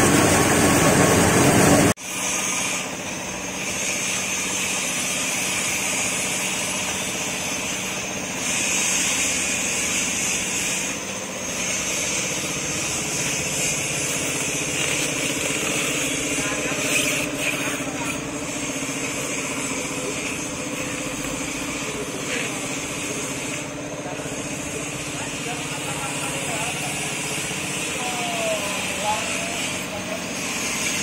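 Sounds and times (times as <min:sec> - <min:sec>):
engine-like drone: 0:00.0 - 0:31.0
grain grinding machine: 0:00.0 - 0:31.0.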